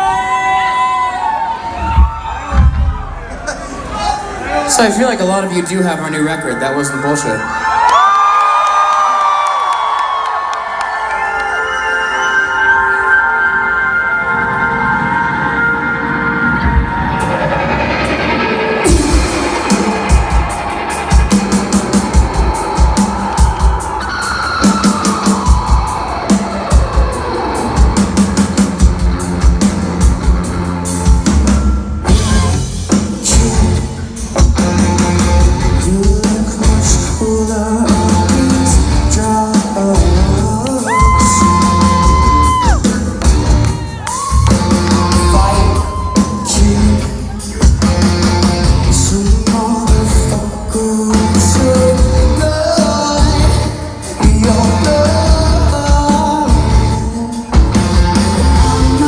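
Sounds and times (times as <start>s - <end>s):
live rock band playing: 11.5s - 59.0s.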